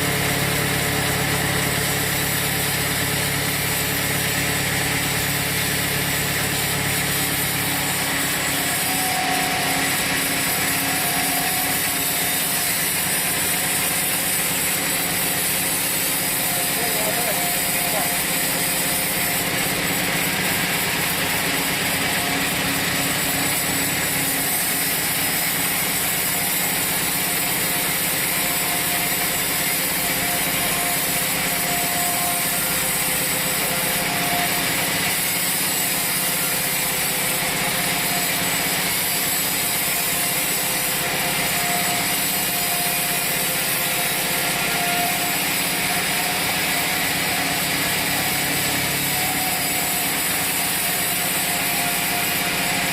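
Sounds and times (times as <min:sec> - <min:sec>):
sawmill saw cutting wood: 0:00.0 - 0:52.9.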